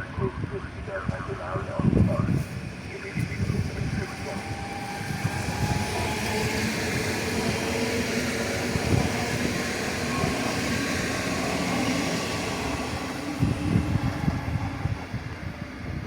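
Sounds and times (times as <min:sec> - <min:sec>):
train wheels rumbling on rails: 0:00.4 - 0:16.0.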